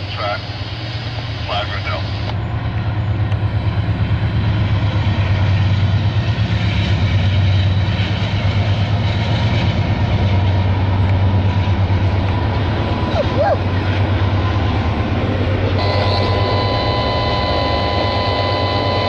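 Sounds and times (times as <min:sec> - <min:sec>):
diesel locomotives droning: 0:00.0 - 0:19.0
freight cars rolling past: 0:00.0 - 0:19.0.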